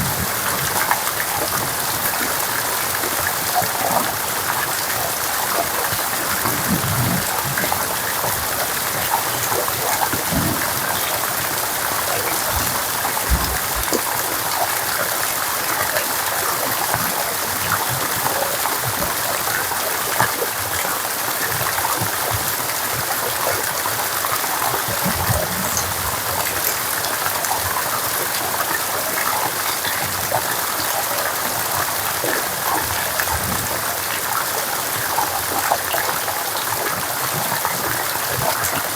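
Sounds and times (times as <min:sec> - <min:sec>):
rain drops falling: 0:00.0 - 0:38.9
running water: 0:00.0 - 0:38.9.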